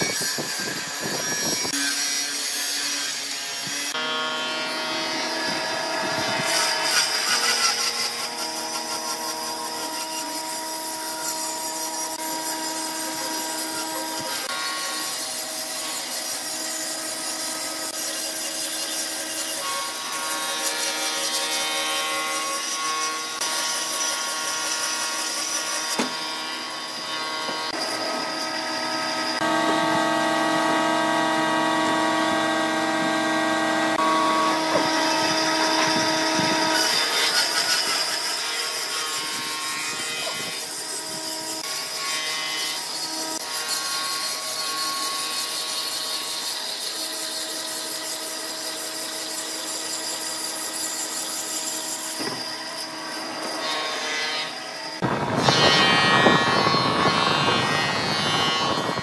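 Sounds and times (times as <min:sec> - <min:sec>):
bandsaw cutting log: 0:00.0 - 0:59.0.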